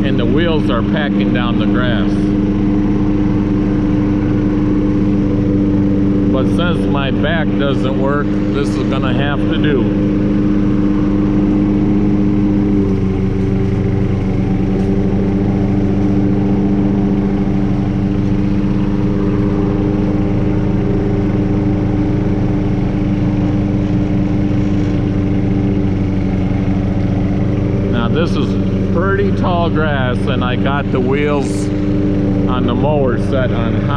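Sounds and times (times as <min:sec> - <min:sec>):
lawnmower engine: 0:00.0 - 0:33.9
tractor engine: 0:00.0 - 0:33.9.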